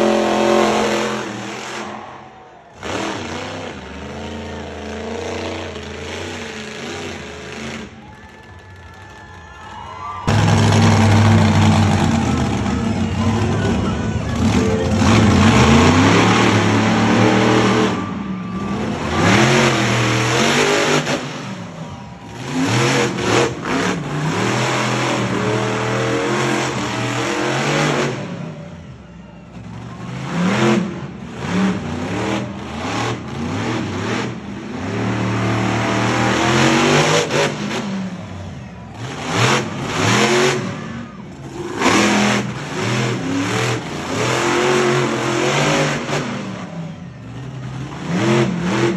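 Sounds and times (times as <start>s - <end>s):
truck engine revving: 0.0s - 8.0s, 10.2s - 48.9s.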